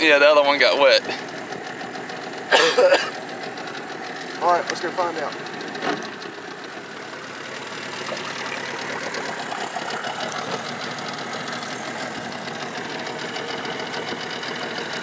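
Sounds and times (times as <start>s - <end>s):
small outboard motor running: 0.0s - 15.0s.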